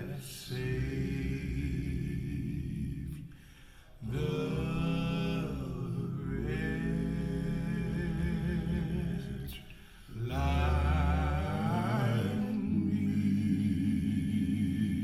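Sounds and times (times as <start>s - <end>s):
wordless vocal music over loudspeakers: 0.0s - 15.0s.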